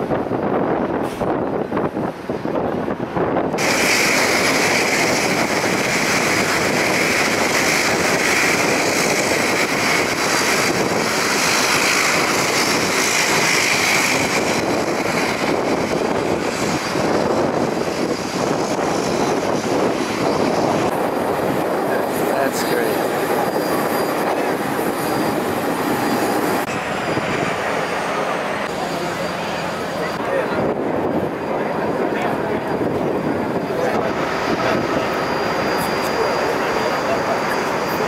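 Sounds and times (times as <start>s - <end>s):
airliner engines rushing: 0.0s - 38.0s
high engine whine: 0.0s - 38.0s.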